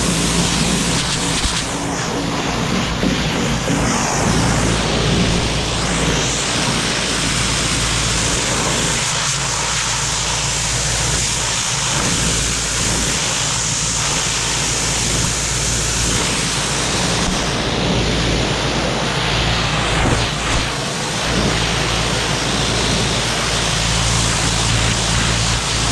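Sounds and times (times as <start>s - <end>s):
pressure washer motor hum: 0.0s - 25.9s
water jet spraying on metal: 0.0s - 25.9s.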